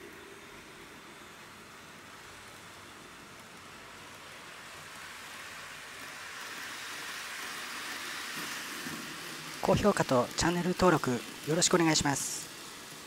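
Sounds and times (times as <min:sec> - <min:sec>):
model train rolling hiss: 0:00.0 - 0:13.0.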